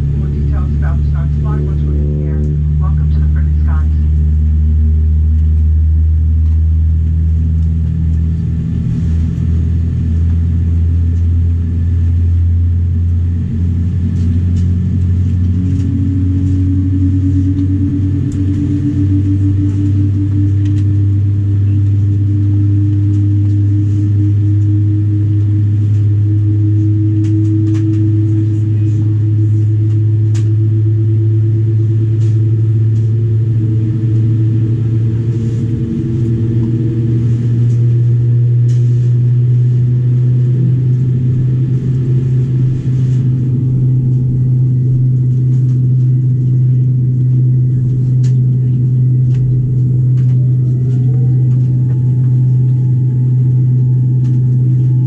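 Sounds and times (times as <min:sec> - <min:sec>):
aircraft cabin hum: 0:00.0 - 0:55.0
whine rising in pitch: 0:00.0 - 0:55.0.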